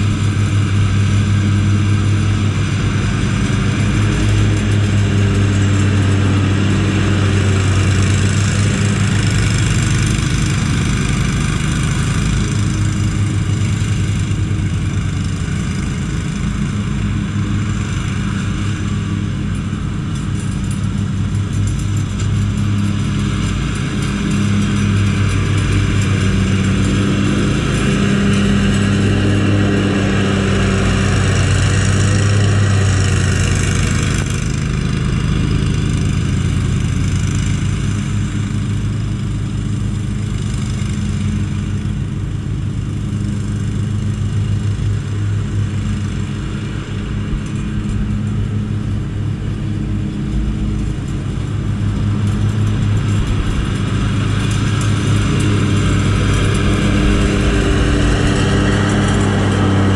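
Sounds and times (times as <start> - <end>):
riding mower engine drone: 0.0 - 59.9.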